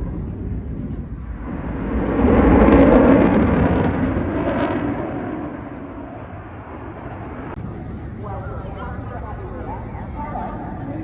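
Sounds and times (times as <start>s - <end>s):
fighter jet engine roar: 0.0s - 11.0s.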